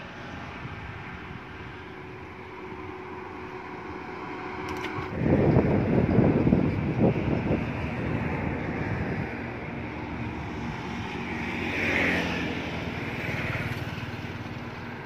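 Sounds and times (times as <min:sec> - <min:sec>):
faint engine hum: 0:00.0 - 0:15.0
wind buffeting microphone: 0:00.0 - 0:15.0.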